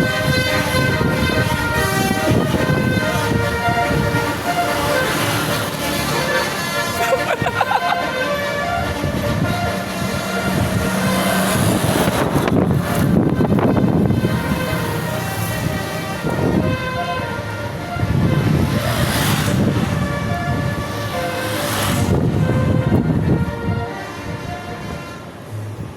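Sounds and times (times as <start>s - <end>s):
rushing bus and traffic noise: 0.0s - 25.9s.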